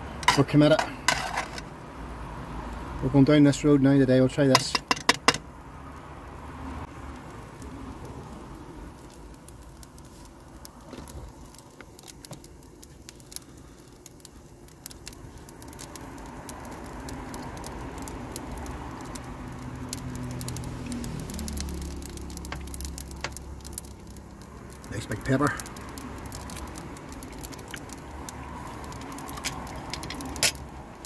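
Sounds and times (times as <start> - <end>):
food sizzling in pans: 0.0 - 1.8, 6.0 - 31.0.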